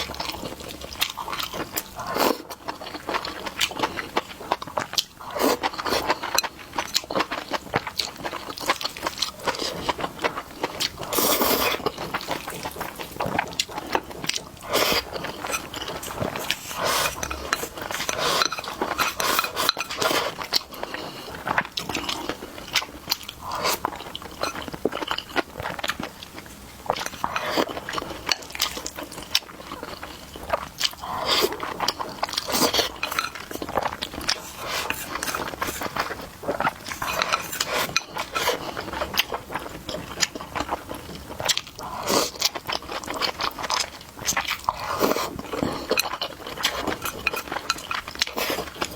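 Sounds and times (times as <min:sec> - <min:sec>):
chewing and biting food: 0:00.0 - 0:48.9.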